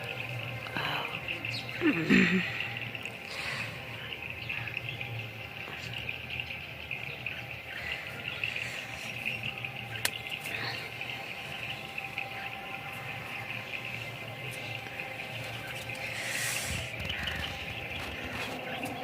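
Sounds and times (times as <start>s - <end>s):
insect trill: 0.0s - 19.0s
small birds chirping: 0.0s - 19.0s.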